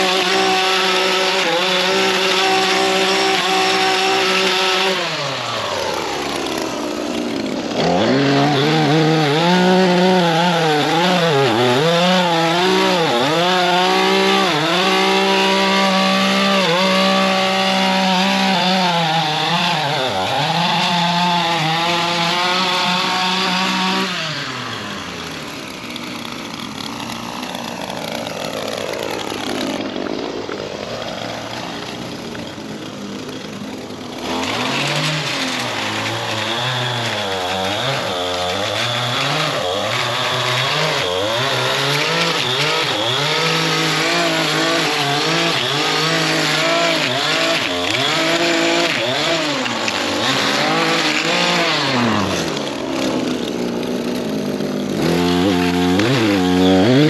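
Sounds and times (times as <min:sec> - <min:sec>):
two-stroke edging tool engine revving: 0:00.0 - 0:57.0.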